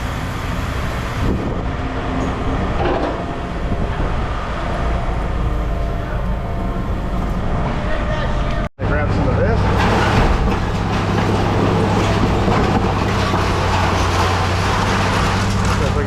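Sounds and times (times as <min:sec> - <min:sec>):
heavy machinery engine drone: 0:00.0 - 0:16.0.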